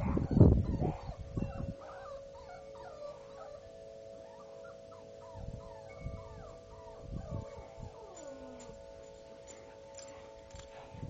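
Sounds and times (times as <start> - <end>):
puppies whimpering and yipping: 0.0 - 10.9.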